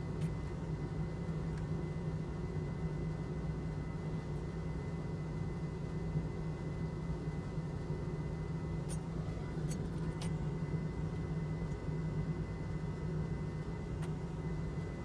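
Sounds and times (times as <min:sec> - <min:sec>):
faint high whine: 0:00.0 - 0:15.0
low machine hum: 0:00.0 - 0:15.0.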